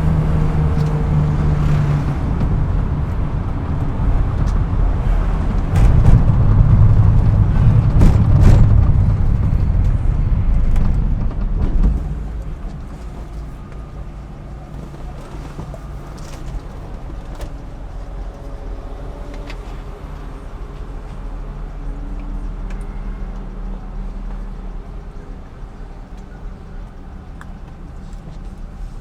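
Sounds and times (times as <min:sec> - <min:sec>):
car engine running hard: 0:00.0 - 0:29.0.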